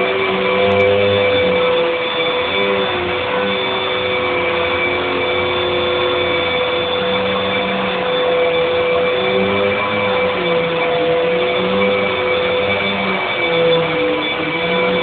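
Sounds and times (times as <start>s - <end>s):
machine drone with whining tone: 0.0s - 15.0s.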